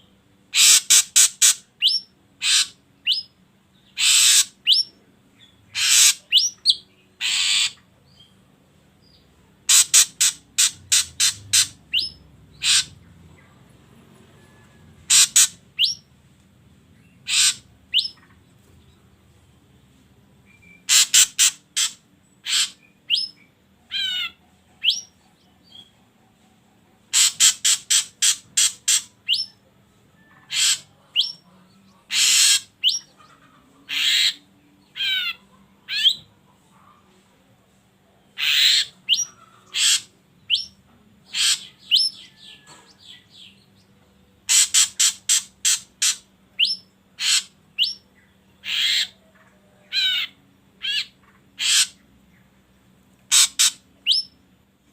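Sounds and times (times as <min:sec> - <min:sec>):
drongo calling: 0:00.0 - 0:08.4, 0:09.1 - 0:16.2, 0:16.8 - 0:19.1, 0:20.4 - 0:37.4, 0:38.0 - 0:54.9.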